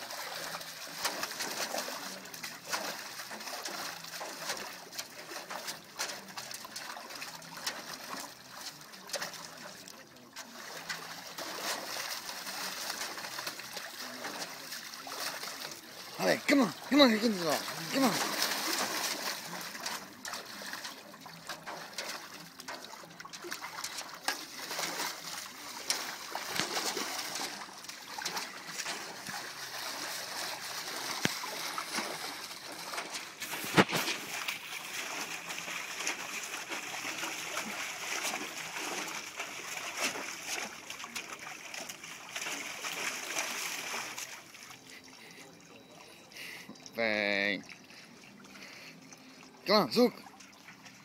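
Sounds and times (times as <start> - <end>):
dog splashing in water: 0.0 - 46.0.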